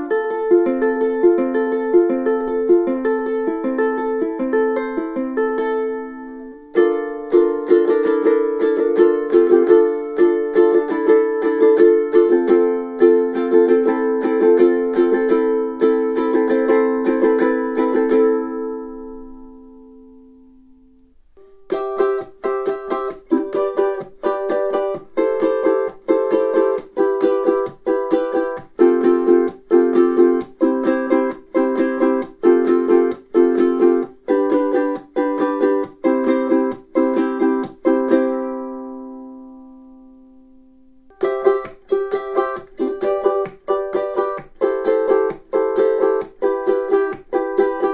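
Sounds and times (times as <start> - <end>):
ukulele strumming chords: 0.0 - 47.9.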